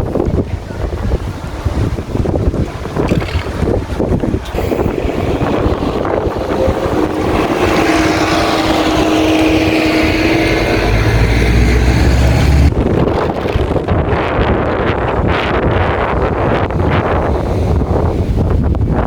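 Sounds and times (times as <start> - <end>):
wind buffeting microphone: 0.0 - 19.0
engine hum: 0.1 - 18.8.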